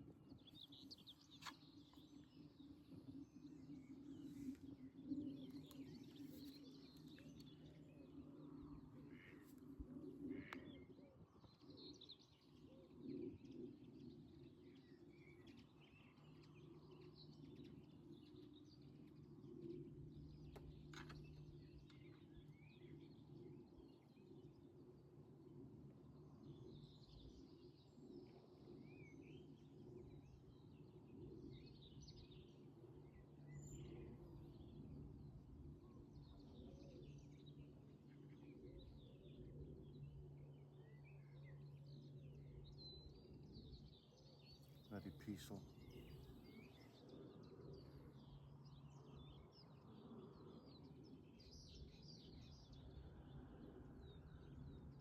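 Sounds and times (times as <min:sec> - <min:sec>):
faint birdsong chirps: 0:00.0 - 0:55.0.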